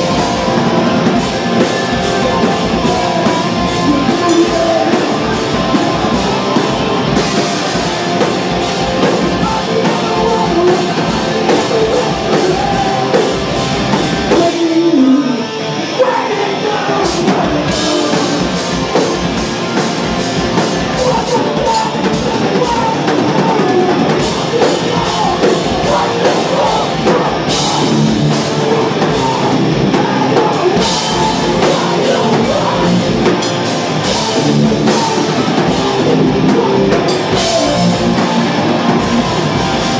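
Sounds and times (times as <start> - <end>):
distorted electric guitars: 0.0 - 39.9
drum kit: 0.0 - 39.9
punk vocals: 0.0 - 39.9.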